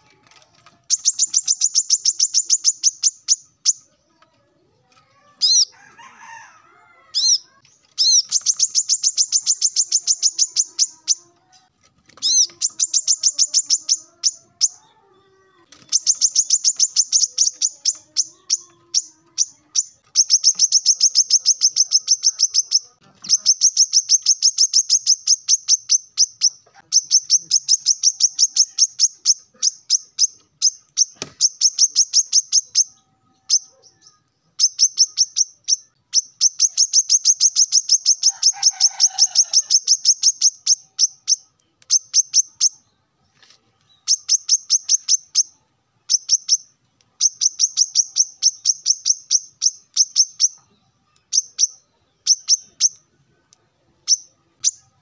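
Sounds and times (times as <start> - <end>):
sunbird singing high sharp chips: 0.8 - 3.9, 7.2 - 11.2, 12.2 - 14.8, 15.7 - 42.9, 43.9 - 53.1.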